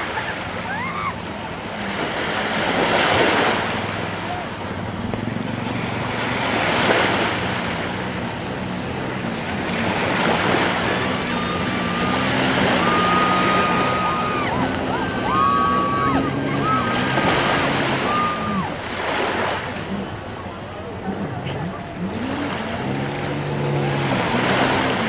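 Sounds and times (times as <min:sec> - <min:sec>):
sea waves breaking: 0:00.0 - 0:25.0.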